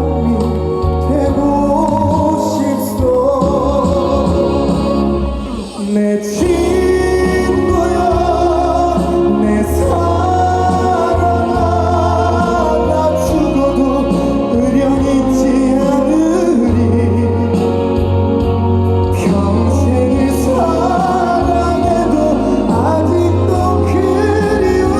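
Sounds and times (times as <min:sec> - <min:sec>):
steady bass line: 0:00.0 - 0:24.9.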